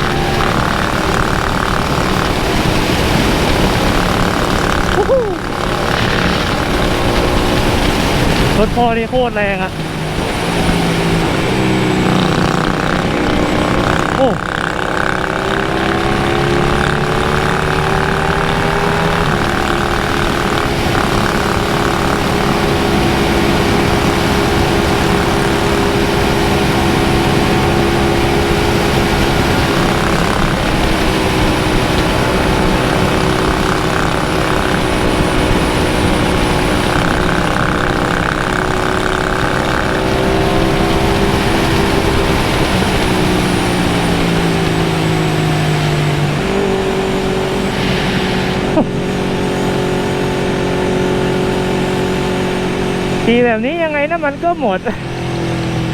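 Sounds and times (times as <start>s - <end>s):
wind noise: 0.0s - 53.4s
motorcycle engine cruising: 0.0s - 55.9s.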